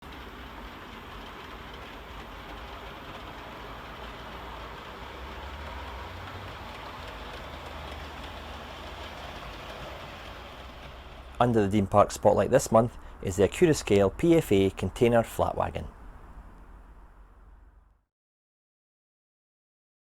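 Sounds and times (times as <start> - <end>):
model train wheels rumbling: 0.0 - 17.9
low motor hum: 0.2 - 17.9.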